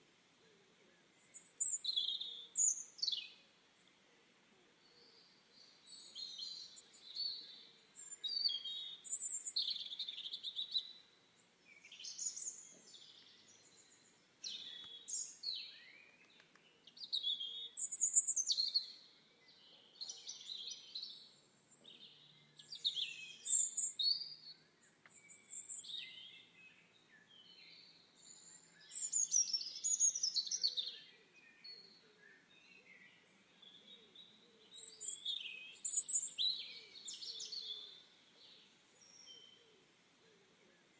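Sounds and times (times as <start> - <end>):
faint background hiss: 0.0 - 40.9
songbirds twittering: 0.0 - 40.9.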